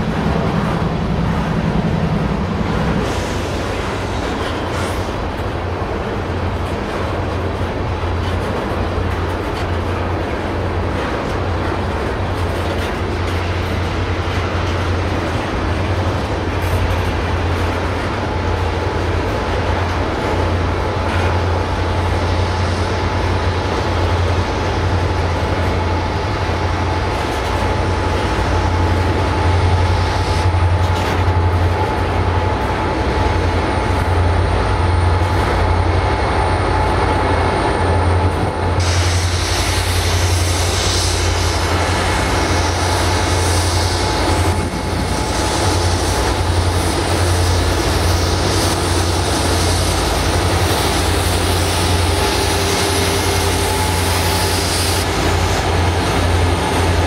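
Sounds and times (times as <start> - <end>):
low locomotive drone: 0.0 - 57.0
train wheels on rail: 0.0 - 57.0.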